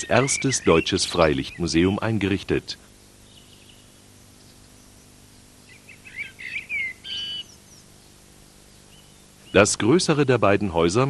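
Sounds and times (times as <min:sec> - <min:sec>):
faint steady hum: 0:00.0 - 0:11.0
songbirds chirping: 0:00.0 - 0:11.0.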